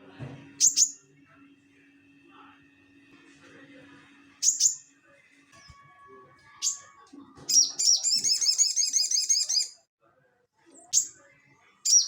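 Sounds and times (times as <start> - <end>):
songbird chirping: 0.1 - 1.6, 2.9 - 9.8, 10.7 - 12.0.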